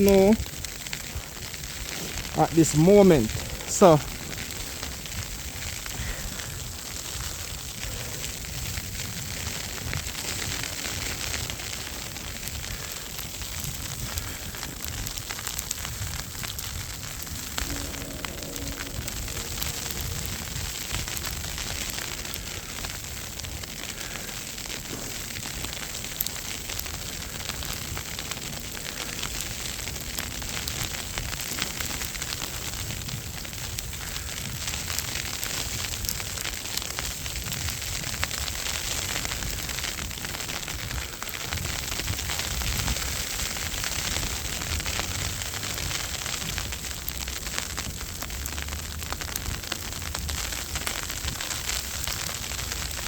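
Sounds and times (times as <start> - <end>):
snowstorm wind and falling snow: 0.0 - 53.0
wind buffeting microphone: 0.4 - 24.0, 26.8 - 46.9.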